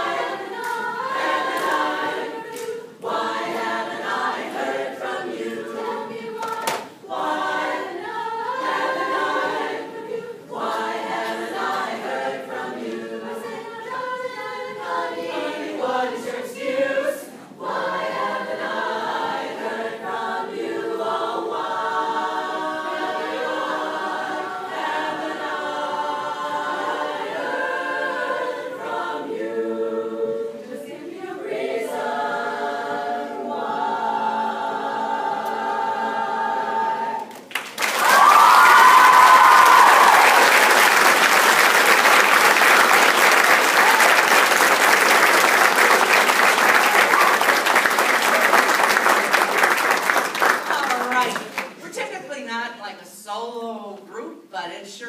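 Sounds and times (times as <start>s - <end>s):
women's chorus singing a cappella: 0.0s - 50.7s.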